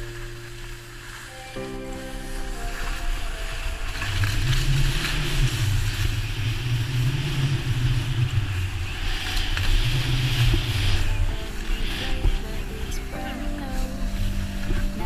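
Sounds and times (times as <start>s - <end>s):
skis hissing through snow: 0.0s - 15.0s
wind rumbling on microphone: 0.0s - 15.0s.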